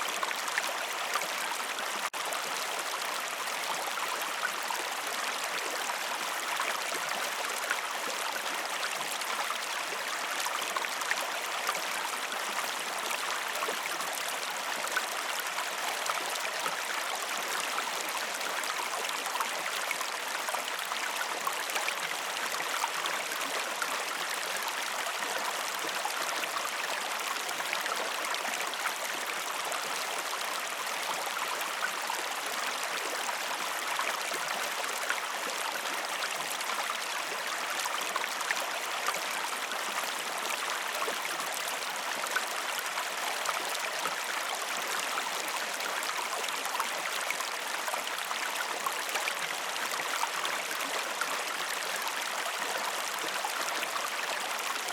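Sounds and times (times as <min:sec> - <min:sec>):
river water flowing over stones: 0:00.0 - 0:54.9.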